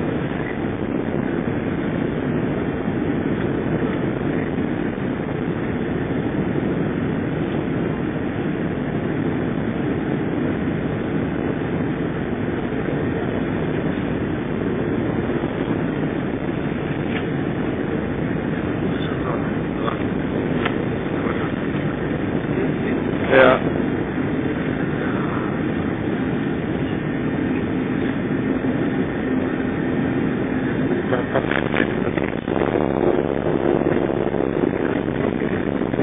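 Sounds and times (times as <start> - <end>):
jet cabin engine rush: 0.0 - 36.0.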